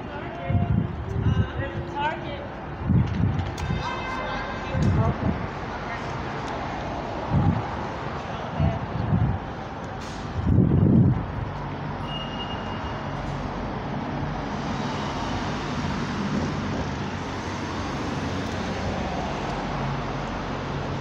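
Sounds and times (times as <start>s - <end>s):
street traffic: 0.0s - 21.0s.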